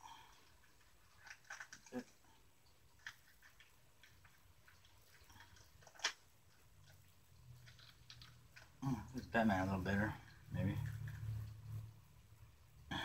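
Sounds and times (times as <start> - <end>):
plastic figure clicks and rustles: 0.3 - 11.6.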